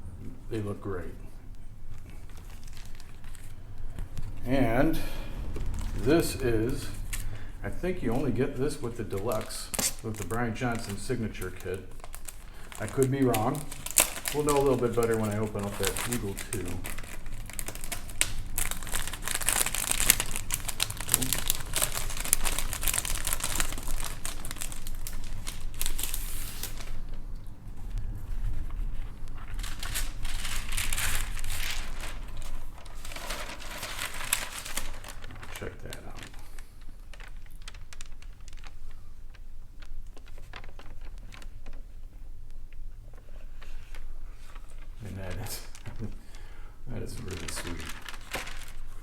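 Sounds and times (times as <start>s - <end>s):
steady low hum: 0.0s - 49.0s
plastic packaging crinkling: 0.5s - 49.0s.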